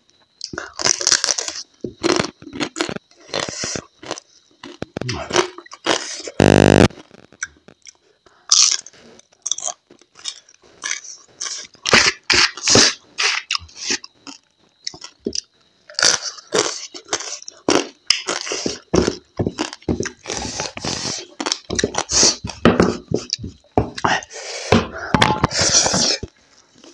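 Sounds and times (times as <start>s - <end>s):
chewing and crunching: 0.3s - 24.1s.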